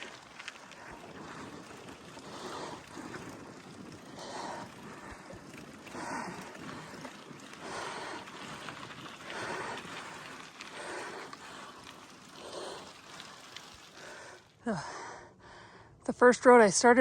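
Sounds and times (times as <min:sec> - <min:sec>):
bike tyres on wet road: 0:00.0 - 0:15.2.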